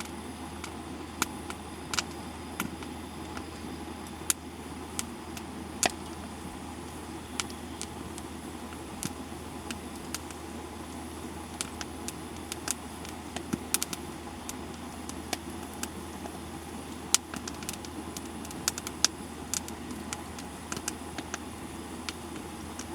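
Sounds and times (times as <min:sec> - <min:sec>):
campfire crackling: 0:00.0 - 0:22.9
fire popping: 0:00.0 - 0:22.9
low fire rumble: 0:00.0 - 0:22.9.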